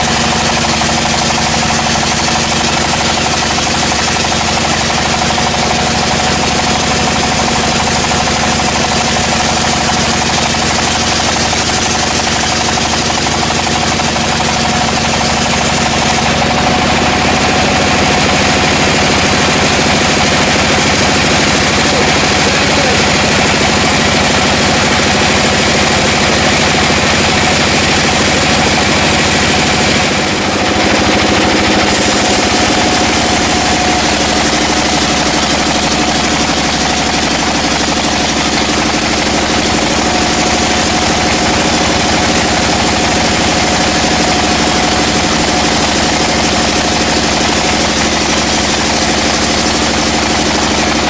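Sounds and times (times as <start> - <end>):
dense mechanical noise: 0.0 - 51.0
sawmill engine firing beat: 0.0 - 51.0.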